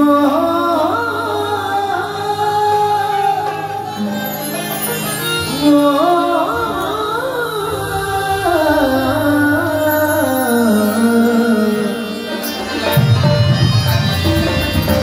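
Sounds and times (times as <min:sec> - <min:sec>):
man singing: 0:00.0 - 0:04.8, 0:05.4 - 0:12.7
harmonium tones: 0:00.0 - 0:15.0.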